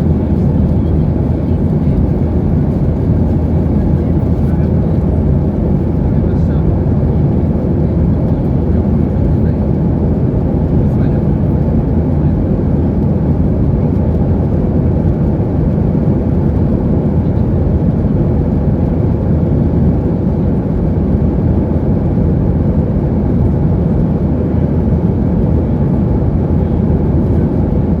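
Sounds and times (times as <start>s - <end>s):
jet engines roaring in cabin: 0.0s - 28.0s.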